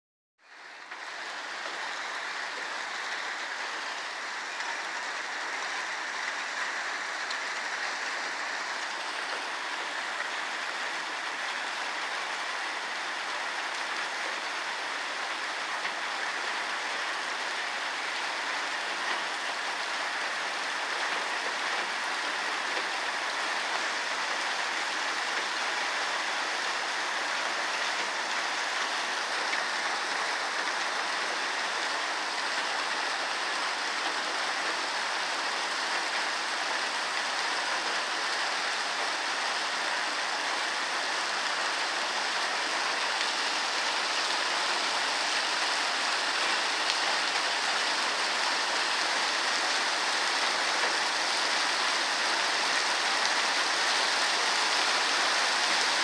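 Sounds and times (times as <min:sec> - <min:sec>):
heavy rain pouring: 0:00.4 - 0:56.0.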